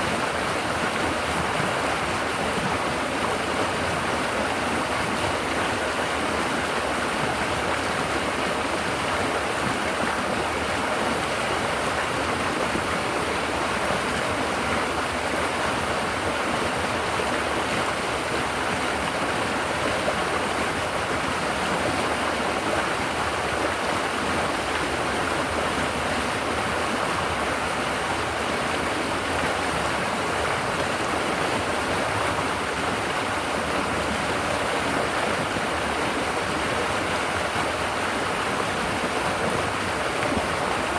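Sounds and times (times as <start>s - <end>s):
river babbling over rocks: 0.0s - 40.9s.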